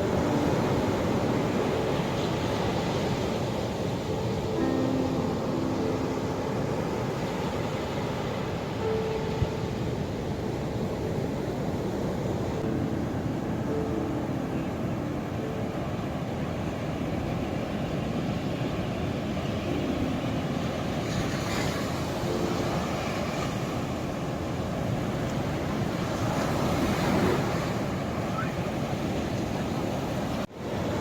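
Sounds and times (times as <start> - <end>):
ocean waves washing ashore: 0.0 - 31.0.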